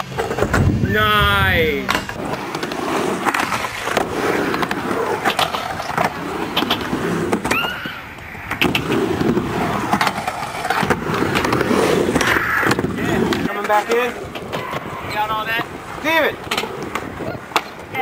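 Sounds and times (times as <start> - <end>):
skateboard wheels rolling on concrete: 0.0 - 18.0
skateboard clacks and knocks: 1.7 - 18.0.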